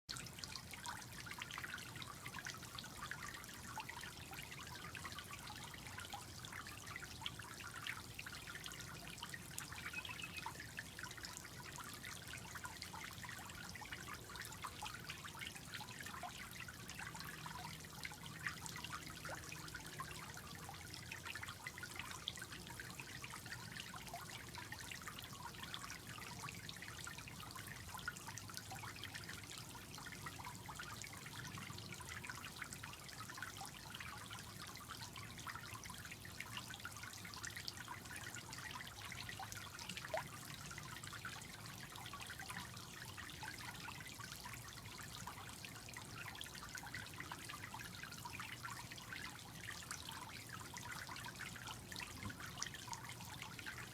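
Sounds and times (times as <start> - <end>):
water trickling into pool: 0.0 - 53.9.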